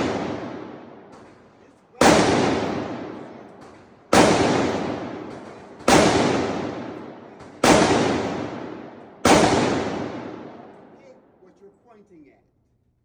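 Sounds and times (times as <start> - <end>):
gunshots echoing: 0.0 - 11.3.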